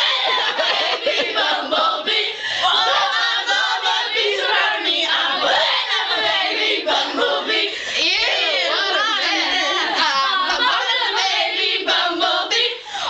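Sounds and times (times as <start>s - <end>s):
girls singing together: 0.0s - 13.0s.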